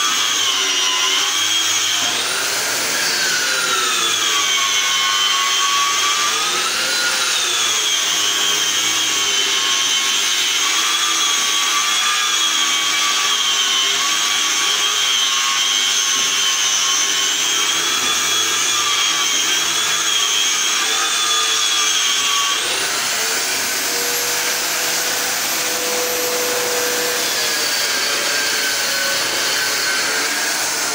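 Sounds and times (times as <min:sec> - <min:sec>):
electric wall sander whining: 0:00.0 - 0:30.9.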